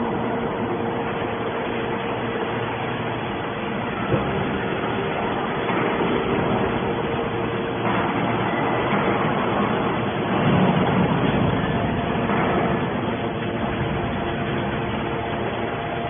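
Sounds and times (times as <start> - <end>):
hydraulic baler droning: 0.0 - 16.0.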